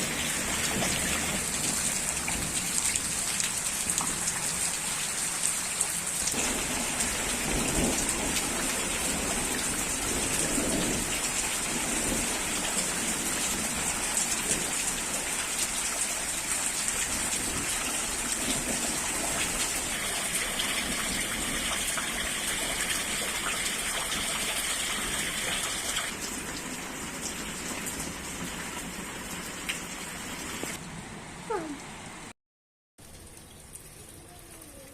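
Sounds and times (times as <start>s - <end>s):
steady rain falling: 0.0s - 32.1s, 33.0s - 34.9s.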